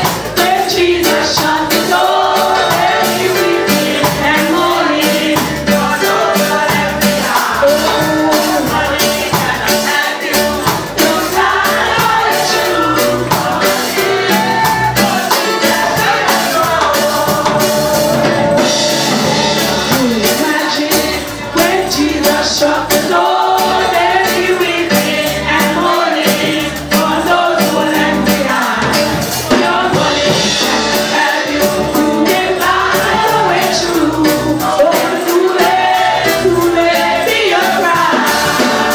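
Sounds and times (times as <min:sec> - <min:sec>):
choir singing gospel song: 0:00.0 - 0:38.9
steady percussion beat: 0:00.0 - 0:38.9.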